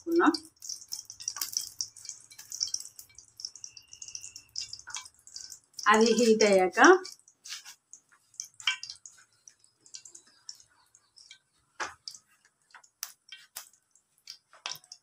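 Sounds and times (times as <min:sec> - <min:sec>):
oil crackling and popping: 0:00.0 - 0:15.0.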